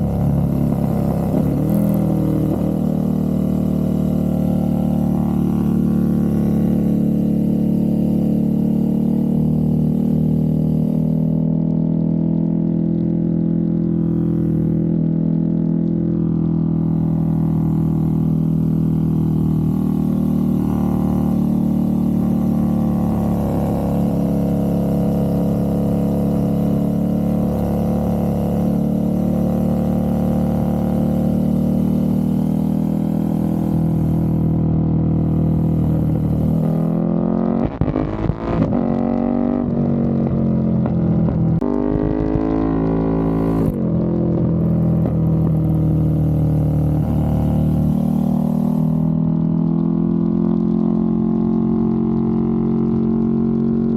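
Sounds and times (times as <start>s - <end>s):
motorcycle engine cruising: 0.0s - 53.9s.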